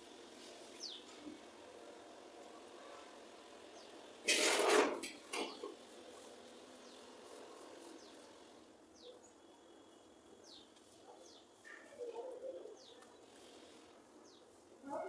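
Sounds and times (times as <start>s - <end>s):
birds chirping: 0.5s - 1.8s, 2.4s - 4.2s, 5.4s - 15.0s.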